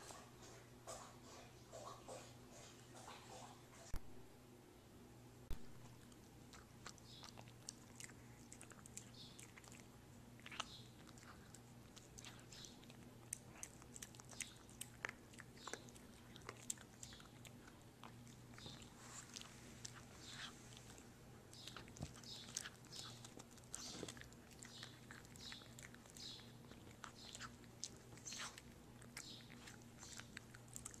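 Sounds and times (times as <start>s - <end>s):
puppy chewing dry kibble: 5.5s - 31.0s.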